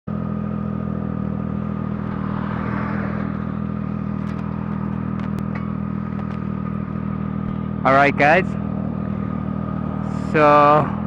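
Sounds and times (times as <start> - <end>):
motorcycle engine idling: 0.1 - 11.0.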